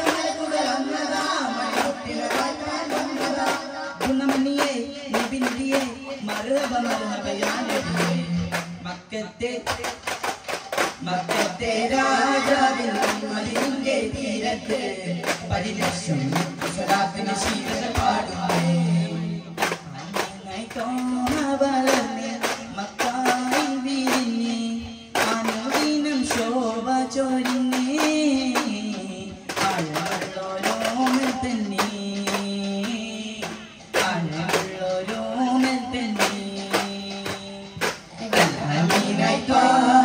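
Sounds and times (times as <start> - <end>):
frame drum strikes: 0.0 - 8.9, 9.7 - 26.8, 27.4 - 40.0
devotional song singing: 0.0 - 40.0.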